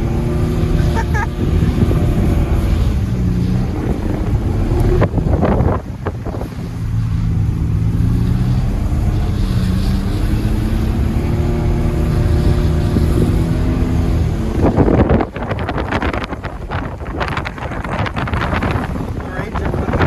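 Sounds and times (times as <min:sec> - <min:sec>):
pickup engine revving: 0:00.0 - 0:20.0.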